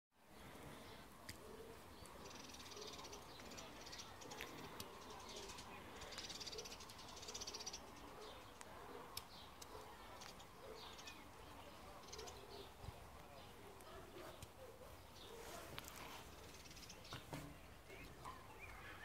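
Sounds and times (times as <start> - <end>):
faint birdsong trills and chirps: 0.2 - 19.0.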